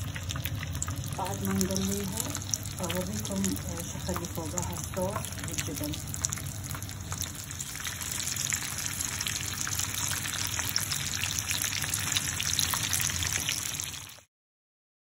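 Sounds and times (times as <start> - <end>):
chicken frying in hot oil: 0.0 - 14.3.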